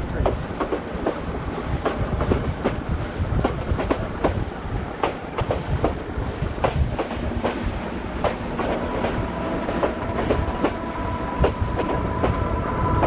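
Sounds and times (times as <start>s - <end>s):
low train rumble: 0.0s - 13.0s
train wheels clicking over joints: 0.0s - 13.0s.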